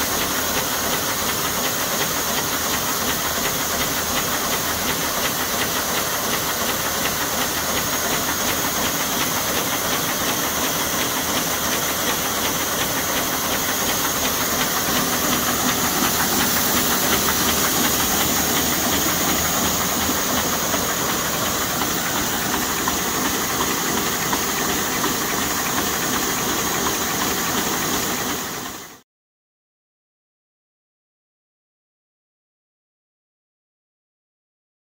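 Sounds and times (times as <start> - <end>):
machine whir and clatter: 0.0 - 29.0.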